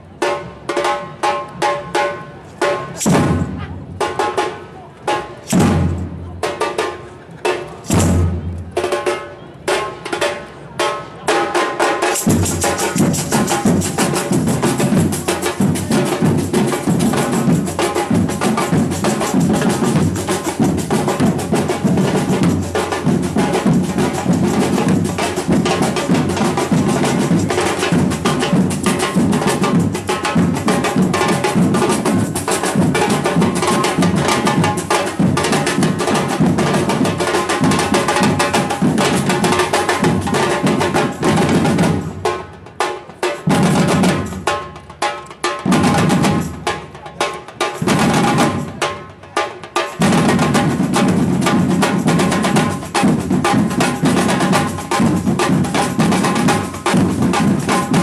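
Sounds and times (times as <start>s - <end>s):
samba drums playing fast groove: 0.0s - 58.0s
wood-block-like percussion strokes: 0.1s - 58.0s
snare drums: 0.2s - 58.0s.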